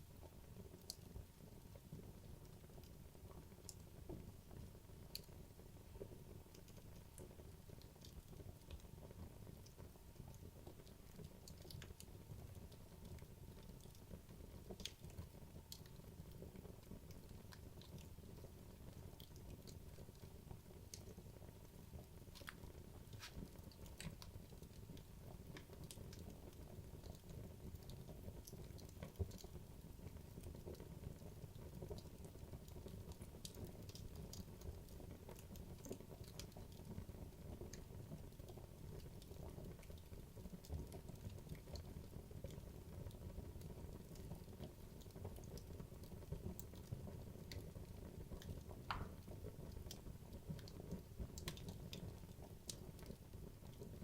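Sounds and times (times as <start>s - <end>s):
logs crackling in a fireplace: 0.0s - 54.0s
low rumble of fire: 0.0s - 54.0s.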